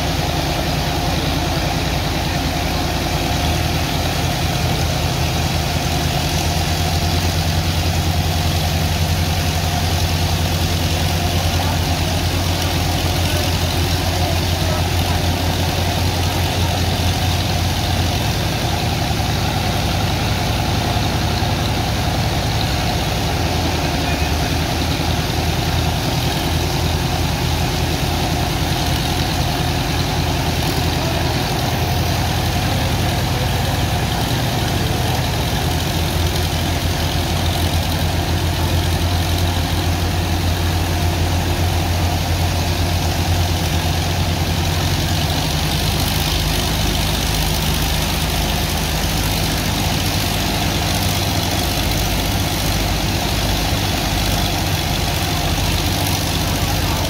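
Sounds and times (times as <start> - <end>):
high-pressure water jet rushing: 0.0 - 57.0
pump engine running: 0.0 - 57.0.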